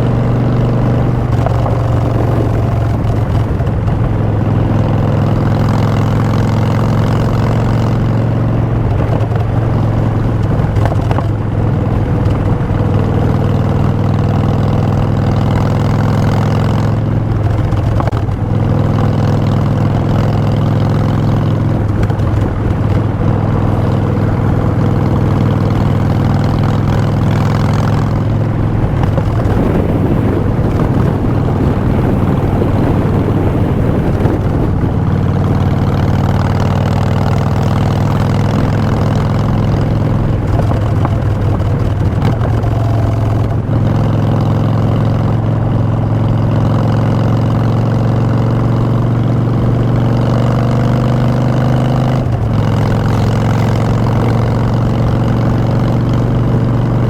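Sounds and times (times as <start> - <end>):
motorcycle exhaust running: 0.0 - 57.0.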